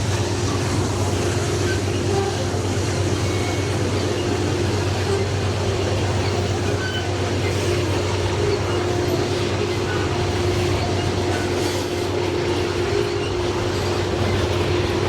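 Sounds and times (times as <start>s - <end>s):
diesel locomotives droning: 0.0s - 15.0s.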